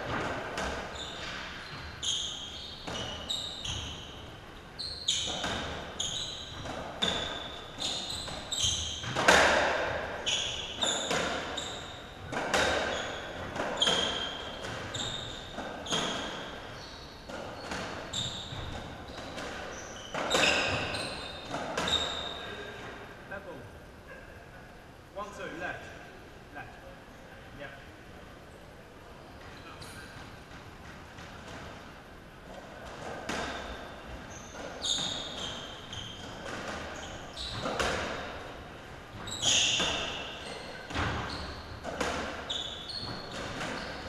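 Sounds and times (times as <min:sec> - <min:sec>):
ball hitting racket and walls: 0:00.0 - 0:22.9, 0:30.0 - 0:44.0
shoes squeaking: 0:00.0 - 0:22.9, 0:29.2 - 0:31.9, 0:32.5 - 0:44.0.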